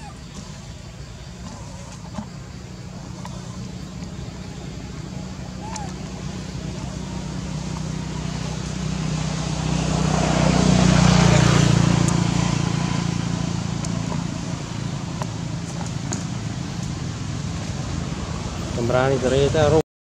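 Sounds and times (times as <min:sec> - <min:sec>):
vehicle engine passing by: 0:00.0 - 0:19.8.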